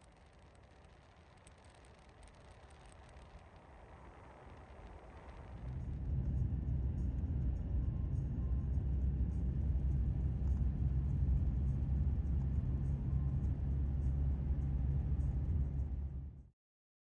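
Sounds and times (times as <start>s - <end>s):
vehicle rumble from inside cabin: 0.0s - 16.5s.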